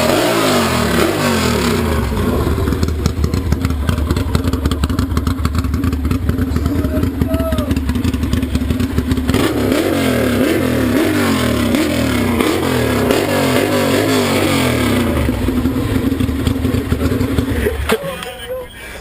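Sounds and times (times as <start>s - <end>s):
engine revving: 0.0s - 17.9s.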